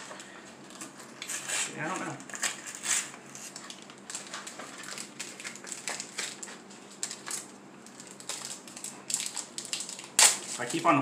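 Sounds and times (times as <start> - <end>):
cards and packaging rustling: 0.0 - 11.0.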